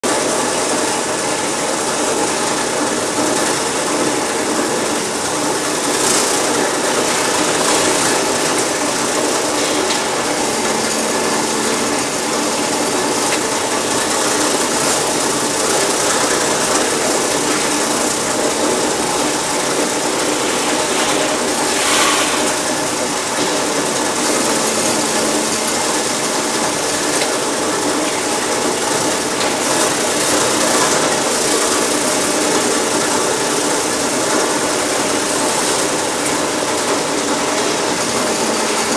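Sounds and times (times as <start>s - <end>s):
machines running: 0.0s - 38.9s.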